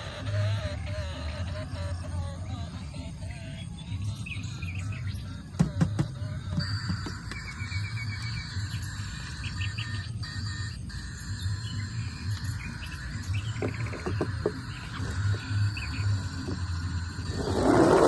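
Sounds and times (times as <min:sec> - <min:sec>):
insects humming: 0:00.0 - 0:18.0
birds chirping: 0:00.1 - 0:18.0.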